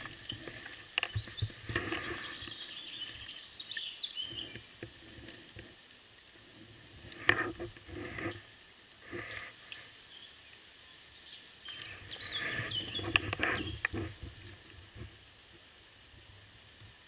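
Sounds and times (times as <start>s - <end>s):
leaves rustling: 0.0s - 17.0s.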